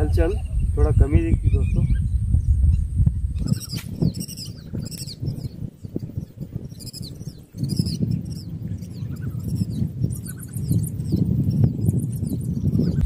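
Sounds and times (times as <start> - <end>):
bird chirping: 0.0 - 13.0
wind rumbling on microphone: 0.0 - 13.0.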